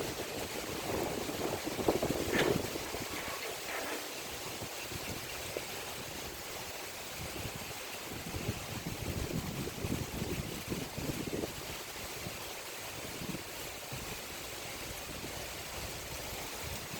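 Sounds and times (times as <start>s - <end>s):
heavy rain pouring: 0.0s - 16.9s
wind gusts buffeting: 0.0s - 16.9s.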